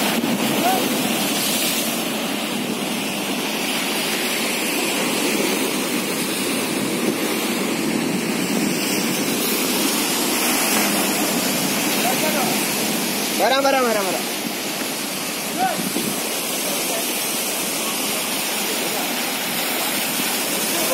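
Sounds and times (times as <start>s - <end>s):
waves breaking on a seawall: 0.0s - 20.9s.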